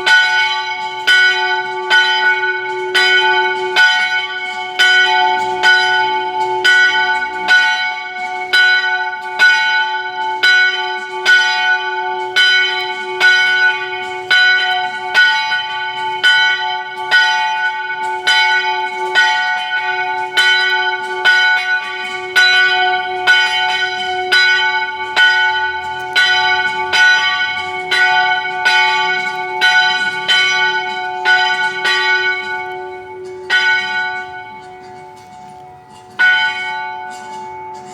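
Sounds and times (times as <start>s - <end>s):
church bell tolling: 0.0s - 37.9s.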